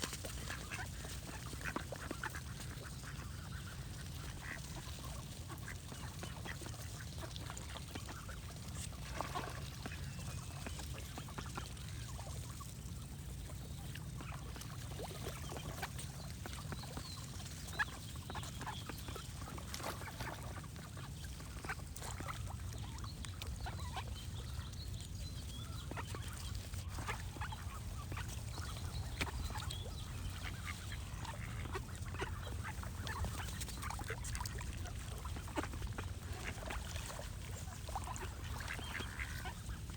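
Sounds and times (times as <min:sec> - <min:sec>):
ducks quacking: 0:00.0 - 0:39.9
small birds chirping: 0:00.2 - 0:39.9.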